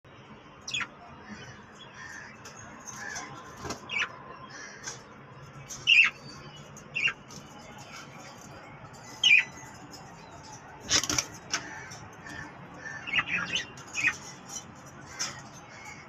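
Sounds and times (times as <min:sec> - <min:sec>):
budgies twittering: 0:00.6 - 0:16.0
parrots squawking: 0:00.7 - 0:05.1, 0:05.8 - 0:07.2, 0:07.8 - 0:16.0.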